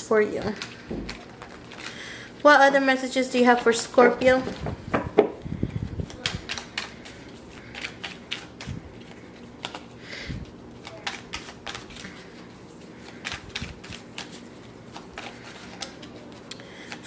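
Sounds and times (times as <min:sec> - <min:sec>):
cards being shuffled: 0:00.2 - 0:02.2, 0:03.6 - 0:17.0.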